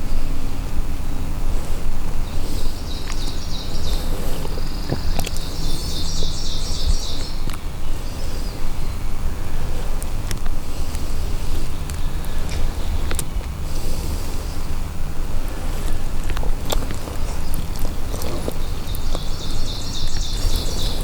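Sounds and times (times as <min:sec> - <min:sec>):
steady low rumble: 0:00.0 - 0:21.0
songbird singing trills: 0:02.2 - 0:09.9, 0:11.1 - 0:14.8, 0:15.4 - 0:21.0.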